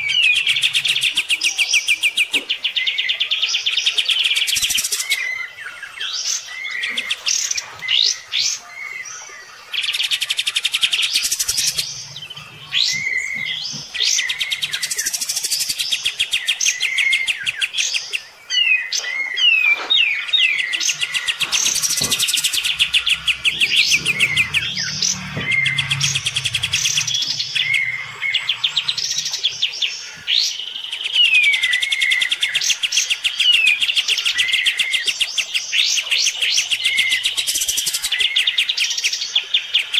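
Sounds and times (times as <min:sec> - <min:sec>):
bulbuls singing trills and whistles: 0:00.0 - 0:39.9.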